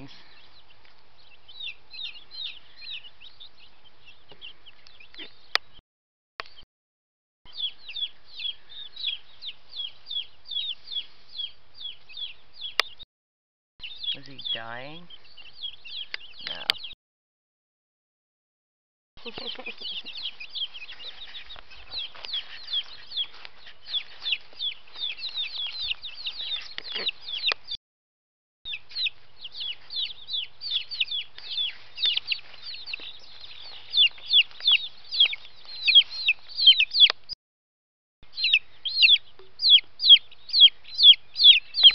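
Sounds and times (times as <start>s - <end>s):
chicks peeping: 0.0s - 5.8s, 7.5s - 13.0s, 13.8s - 17.0s, 19.2s - 27.8s, 28.7s - 37.4s, 38.2s - 41.9s.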